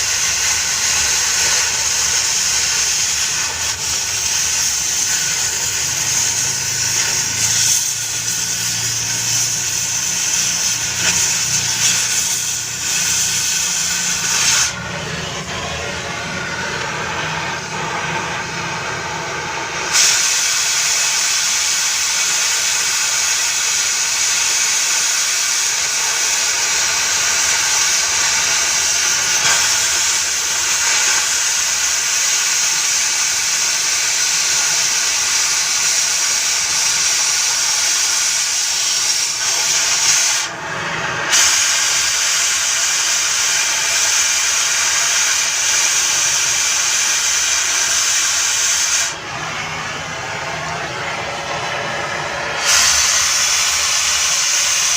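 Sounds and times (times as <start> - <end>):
cutting torch hissing: 0.0 - 54.9.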